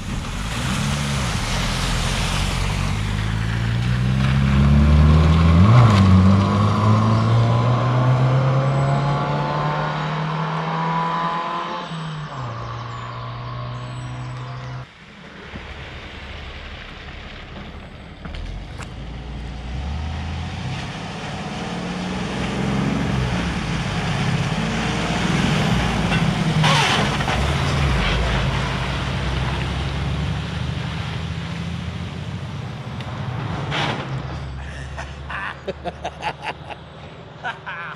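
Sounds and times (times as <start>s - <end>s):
heavy vehicle engine changing gears: 0.0s - 37.6s.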